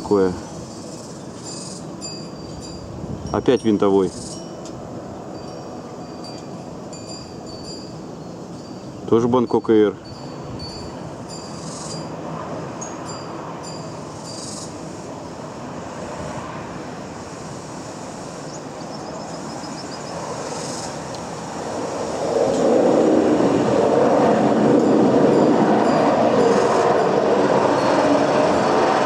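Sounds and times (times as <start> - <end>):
turboprop airliner passing: 0.0 - 29.0.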